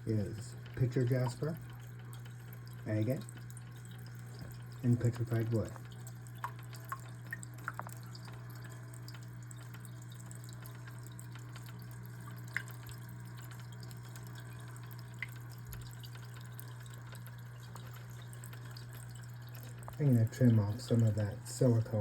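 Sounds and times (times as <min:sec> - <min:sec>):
water trickling over stones: 0:00.0 - 0:22.0.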